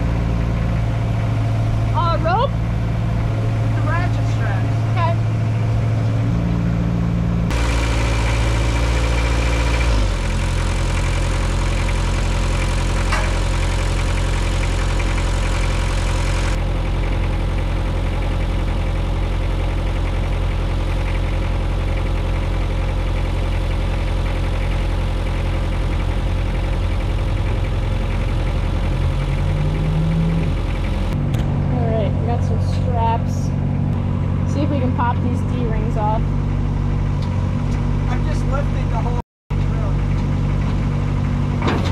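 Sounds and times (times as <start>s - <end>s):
excavator engine idling: 0.0s - 41.9s.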